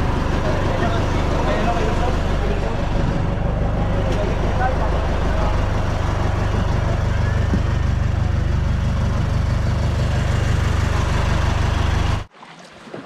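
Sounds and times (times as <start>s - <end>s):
boat engine running: 0.0s - 12.3s.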